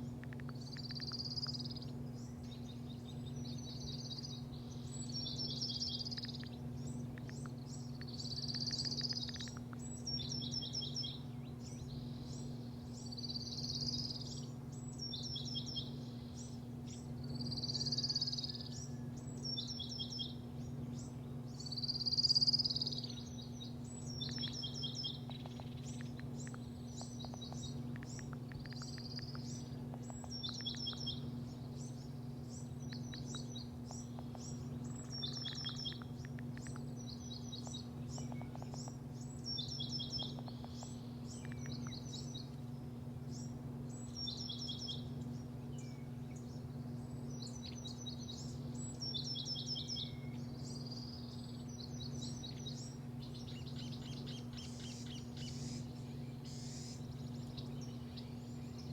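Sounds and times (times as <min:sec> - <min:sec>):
small birds chirping: 0:00.0 - 0:58.9
steady low hum: 0:00.0 - 0:58.9.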